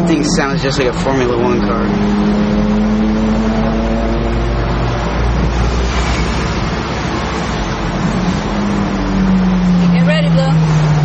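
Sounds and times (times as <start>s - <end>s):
car engine and exhaust droning: 0.0s - 11.0s
deep engine rumble: 0.0s - 11.0s.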